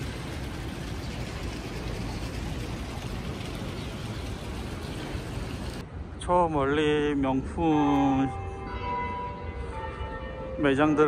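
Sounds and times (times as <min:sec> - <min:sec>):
city background noise: 0:00.0 - 0:11.0.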